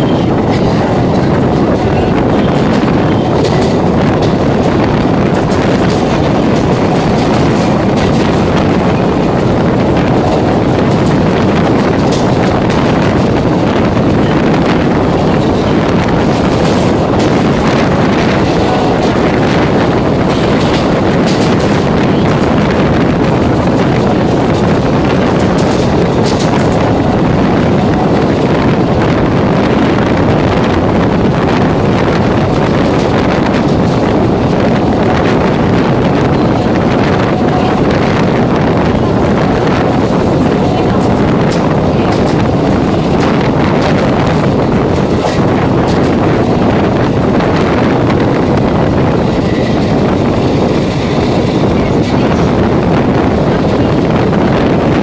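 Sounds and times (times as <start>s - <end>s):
electric train wind and rumble: 0.0s - 55.0s.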